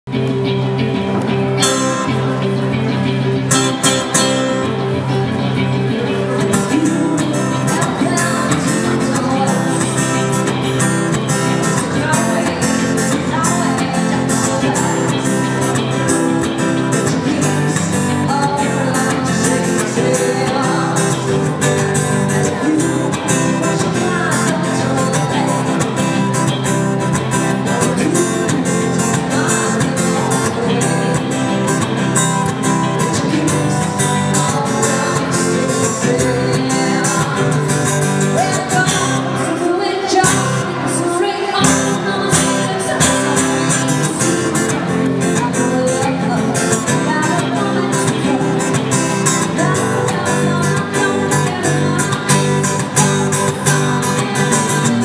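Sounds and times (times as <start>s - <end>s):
electric guitars: 0.0s - 55.0s
woman singing into microphone: 5.7s - 55.0s.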